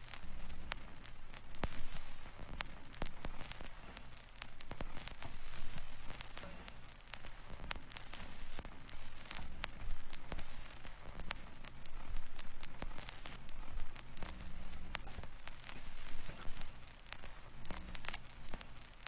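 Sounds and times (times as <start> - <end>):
irregular crackling clicks: 0.0 - 19.0
steady low noise: 0.0 - 19.0.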